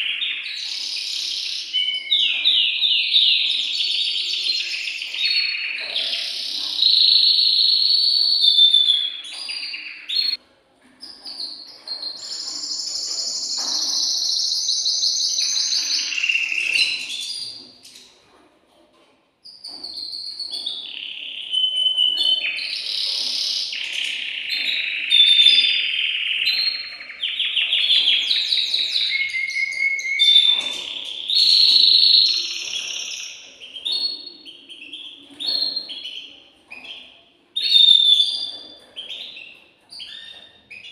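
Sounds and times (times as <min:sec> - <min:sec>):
canary singing trilled phrases: 0:00.0 - 0:10.4, 0:11.0 - 0:18.2, 0:19.4 - 0:40.9.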